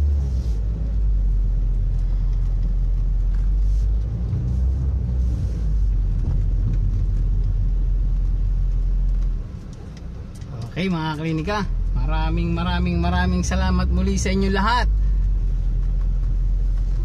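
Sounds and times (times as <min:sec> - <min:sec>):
car interior engine rumble: 0:00.0 - 0:17.0.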